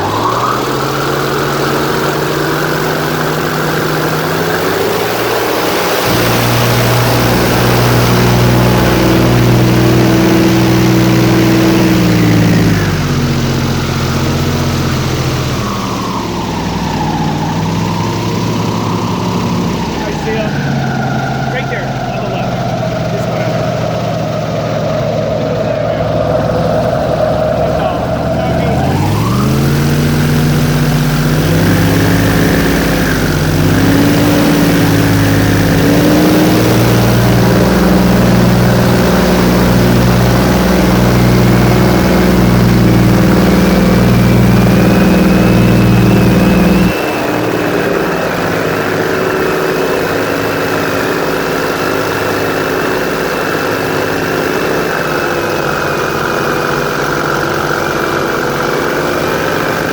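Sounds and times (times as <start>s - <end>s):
airboat engine and propeller: 0.0s - 59.9s.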